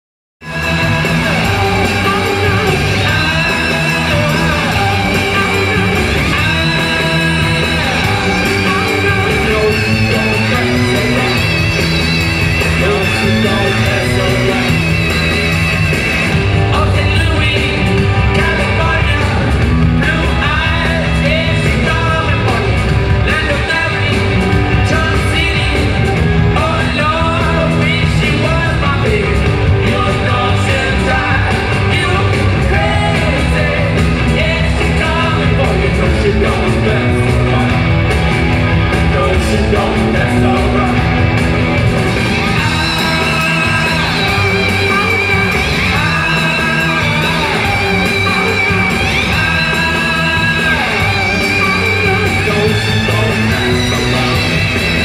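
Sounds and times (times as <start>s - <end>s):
person singing: 0.4s - 38.0s, 38.9s - 41.4s, 42.1s - 55.0s
live rock band: 0.4s - 55.0s.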